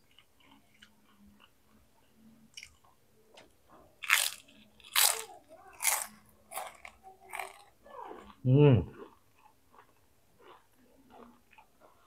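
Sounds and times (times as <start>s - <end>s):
crunchy food chewing: 0.0s - 12.0s.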